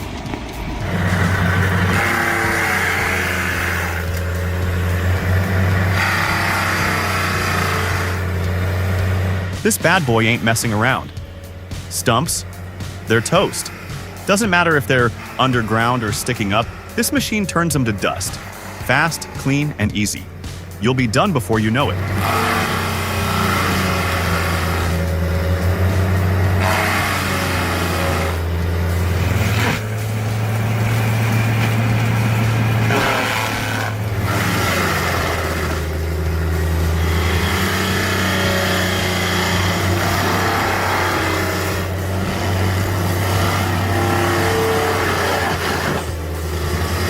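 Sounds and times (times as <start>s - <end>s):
heavy machine engine revving: 0.0s - 47.0s.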